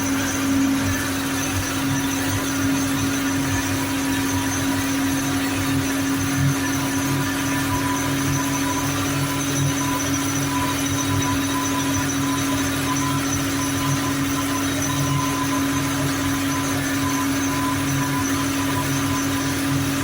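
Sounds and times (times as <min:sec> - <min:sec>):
constant whine: 0:00.0 - 0:20.0
diesel engine running: 0:00.0 - 0:20.0.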